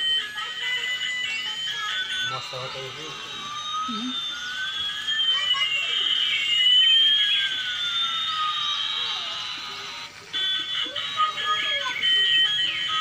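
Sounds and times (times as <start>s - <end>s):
toy gliding electronic tones: 0.0s - 13.0s.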